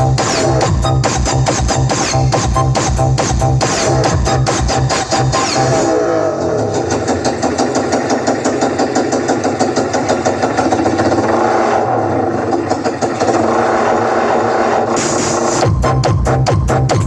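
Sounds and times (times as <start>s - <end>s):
engine-like pulsing over loudspeakers: 0.0s - 17.0s.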